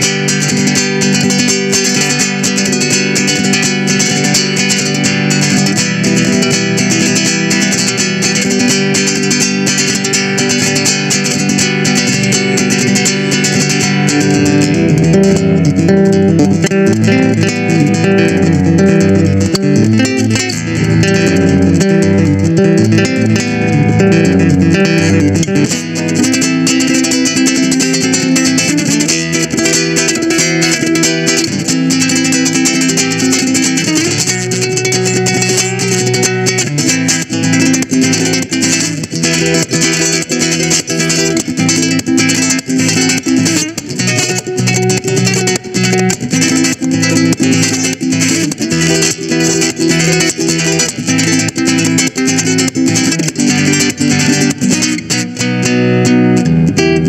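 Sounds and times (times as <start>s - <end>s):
acoustic guitar fingerpicking: 0.0s - 57.0s.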